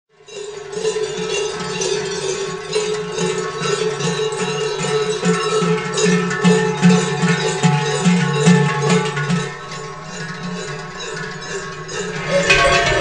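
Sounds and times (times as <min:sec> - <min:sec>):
large cowbells clanging: 0:00.1 - 0:13.0.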